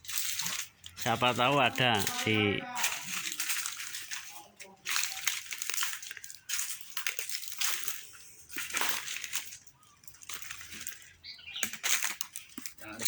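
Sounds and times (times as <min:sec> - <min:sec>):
vegetation rustling and crunching: 0:00.0 - 0:13.0.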